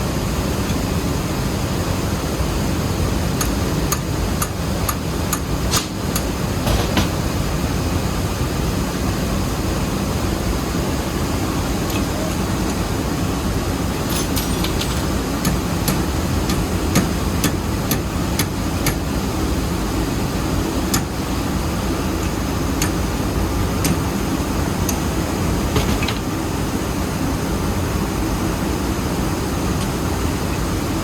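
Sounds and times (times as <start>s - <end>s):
rice mill machinery drone: 0.0s - 31.0s.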